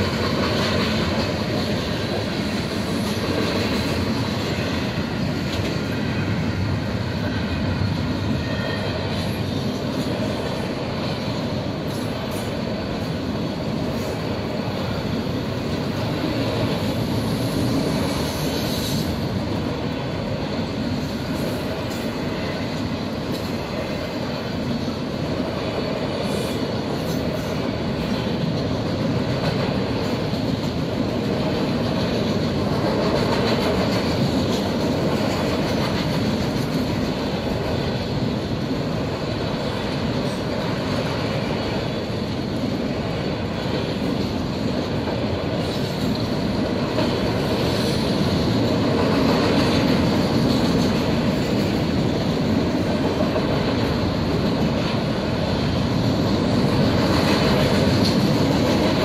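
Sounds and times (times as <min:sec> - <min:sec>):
train wheels rolling on rail: 0:00.0 - 0:59.0.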